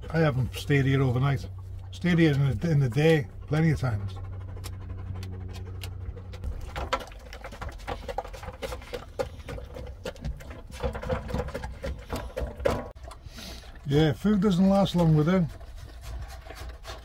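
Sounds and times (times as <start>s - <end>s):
dog lapping from metal bowl: 0.0s - 17.0s
dog chewing: 0.4s - 13.8s, 14.8s - 17.0s.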